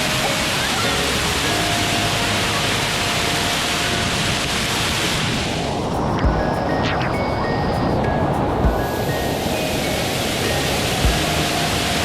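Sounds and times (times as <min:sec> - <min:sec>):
waterfall rushing: 0:00.0 - 0:06.6, 0:08.3 - 0:12.0.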